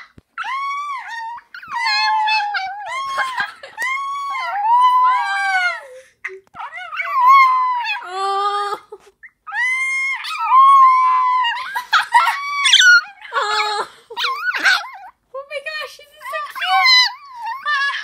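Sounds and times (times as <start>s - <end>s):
dog howling: 0.0s - 5.9s, 6.5s - 8.2s, 9.5s - 15.1s, 16.4s - 18.0s.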